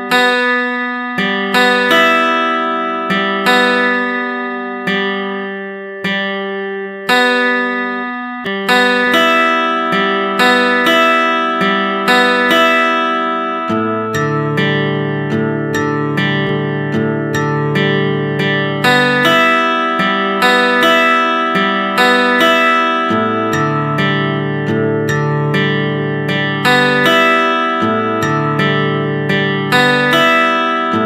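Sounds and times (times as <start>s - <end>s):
slow plucked string music: 0.0s - 31.0s.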